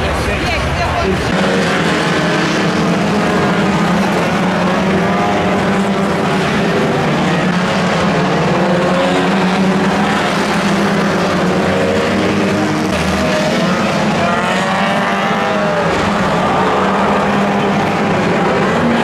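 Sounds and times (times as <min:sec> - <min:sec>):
engine and tyre noise: 0:00.0 - 0:19.0
racing car engines revving: 0:00.0 - 0:19.0.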